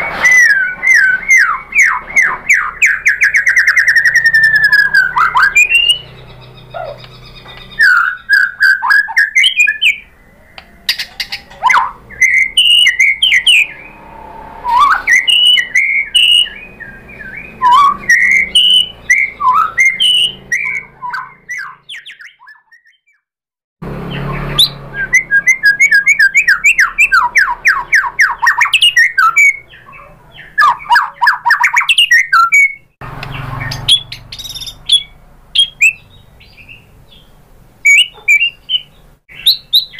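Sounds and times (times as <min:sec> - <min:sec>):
bird song with whistles and trills: 0:00.0 - 0:23.3, 0:24.0 - 0:39.9.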